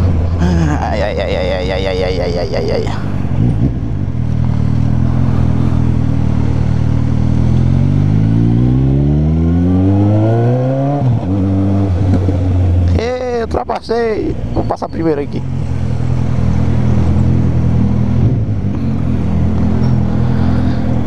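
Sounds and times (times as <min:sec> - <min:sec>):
motorcycle engine accelerating: 0:01.0 - 0:13.0, 0:15.5 - 0:21.0.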